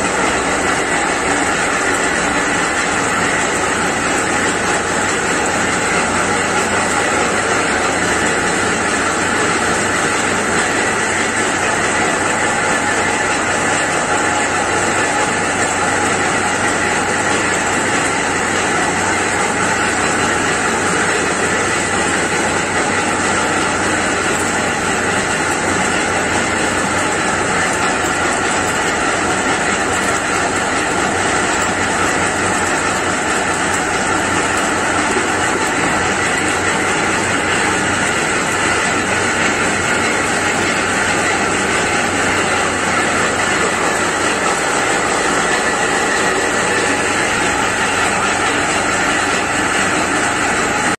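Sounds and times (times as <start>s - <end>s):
oil press machine running: 0.0s - 50.9s.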